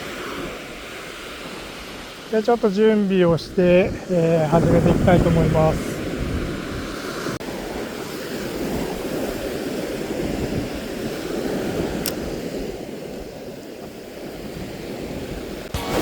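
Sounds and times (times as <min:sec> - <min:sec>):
ocean surf on sandy beach: 0:00.0 - 0:16.0
wind on microphone: 0:03.1 - 0:16.0.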